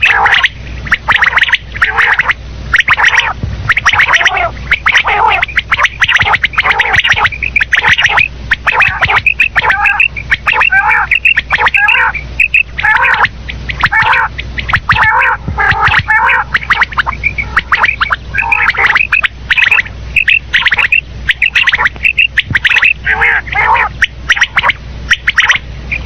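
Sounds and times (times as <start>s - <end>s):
quail calling: 0.0s - 26.0s.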